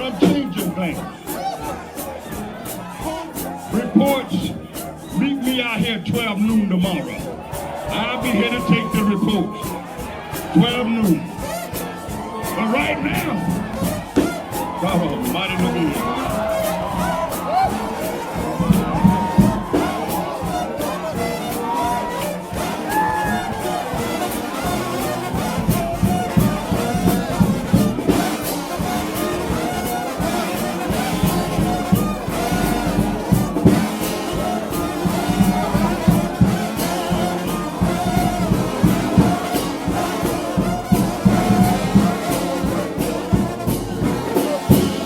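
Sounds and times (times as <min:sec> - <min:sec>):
brass band playing a hymn: 0:00.0 - 0:45.0
steady drum beat: 0:00.0 - 0:45.0.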